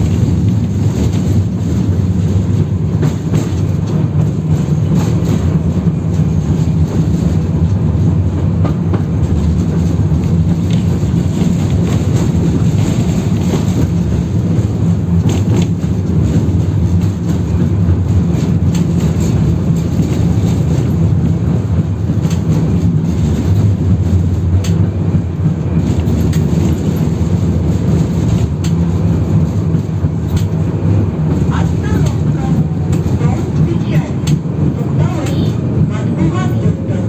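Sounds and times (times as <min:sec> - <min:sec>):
tram motors and wheels droning: 0:00.0 - 0:37.0
wheels clicking on track: 0:00.0 - 0:37.0.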